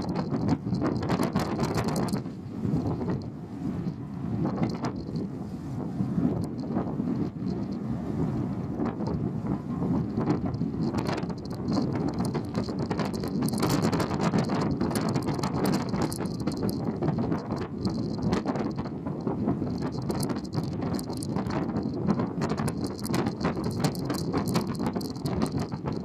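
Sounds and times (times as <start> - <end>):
constant crackling: 0.0 - 5.3, 6.3 - 7.8, 8.7 - 26.0
ship engine rumble: 0.0 - 26.0
wind buffeting microphone: 0.0 - 26.0.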